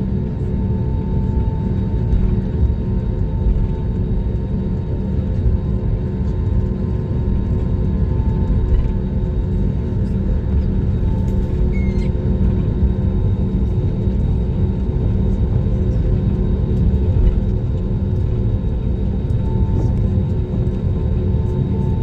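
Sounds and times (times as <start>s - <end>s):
airliner cabin engine rumble: 0.0s - 22.0s
droning hum: 0.0s - 22.0s.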